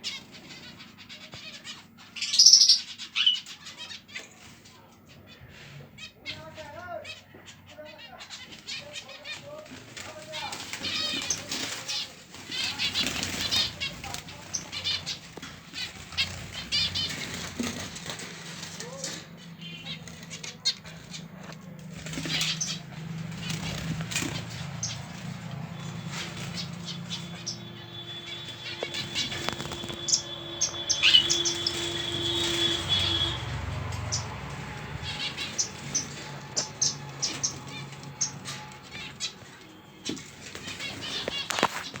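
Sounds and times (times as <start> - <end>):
finches chirping: 0.0 - 4.4, 5.0 - 42.0
wings fluttering: 8.0 - 42.0.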